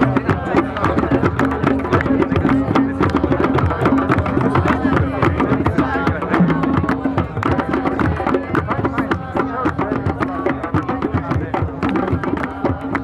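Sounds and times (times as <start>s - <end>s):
hand drums fast rhythm: 0.0s - 13.0s.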